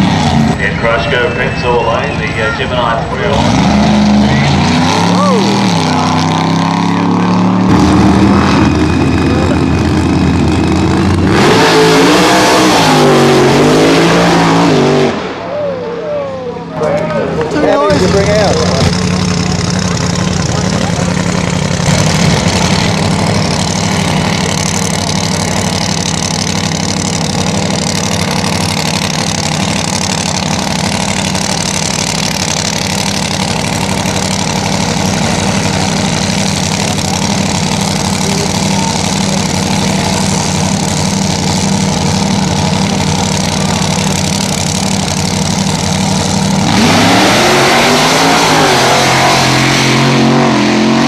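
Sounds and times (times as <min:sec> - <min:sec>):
drag racing car engine: 0:00.0 - 0:51.0.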